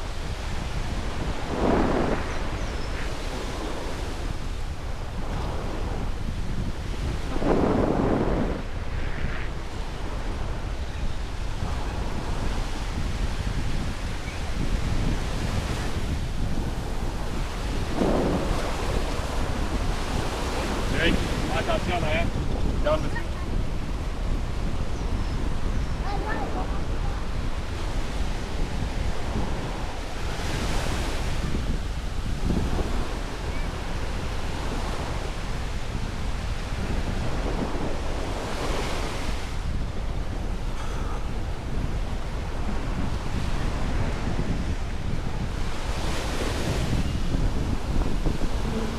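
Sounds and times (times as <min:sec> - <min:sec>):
surf washing onto beach: 0:00.0 - 0:48.9
wind buffeting microphone: 0:00.0 - 0:48.9.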